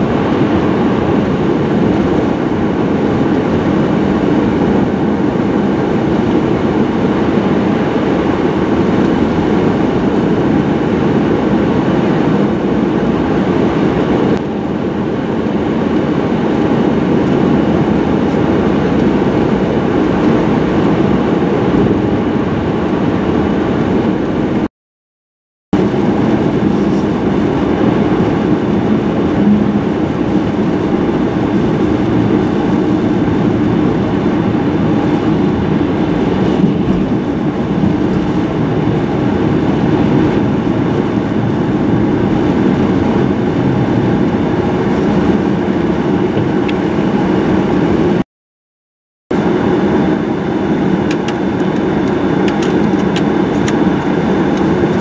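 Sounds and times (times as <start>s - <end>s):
car engine and tyre noise on snow: 0.0s - 24.7s, 25.8s - 48.2s, 49.4s - 55.0s.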